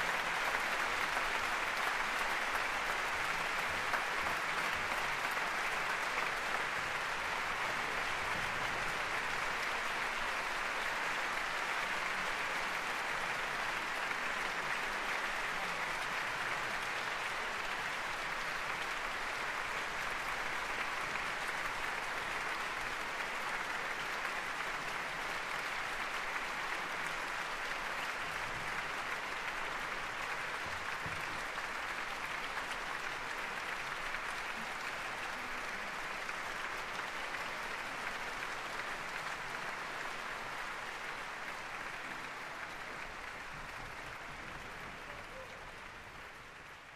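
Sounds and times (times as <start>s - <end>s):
audience applauding: 0.0s - 46.9s.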